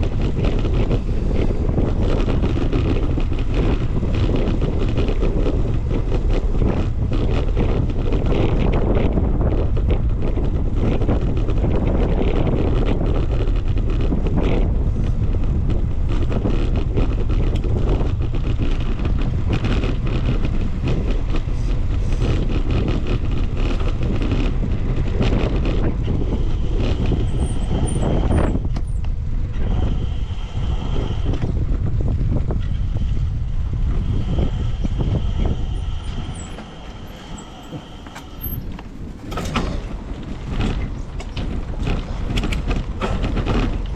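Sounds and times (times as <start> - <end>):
traffic noise: 0.0 - 43.9
wind rumble on microphone: 0.0 - 43.9.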